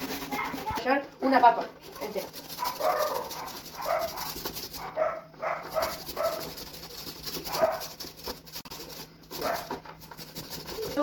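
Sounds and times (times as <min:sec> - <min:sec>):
potato grated on hand grater: 0:00.0 - 0:05.0, 0:05.6 - 0:11.0.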